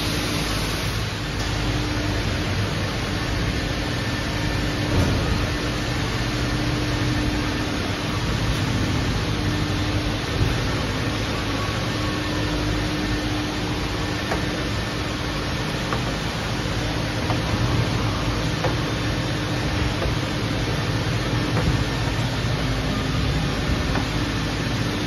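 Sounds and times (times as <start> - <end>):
equipment low hum: 0.0 - 25.0.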